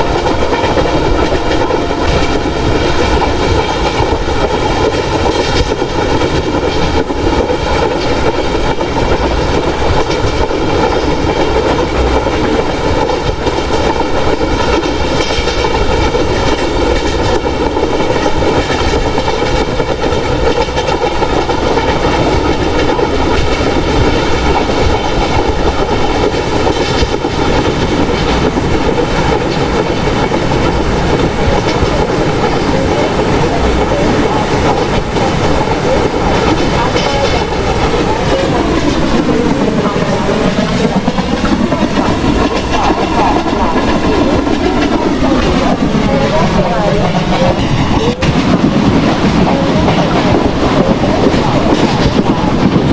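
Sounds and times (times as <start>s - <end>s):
train rumbling at speed: 0.0s - 52.9s
wheels clicking over rail joints: 0.0s - 52.9s.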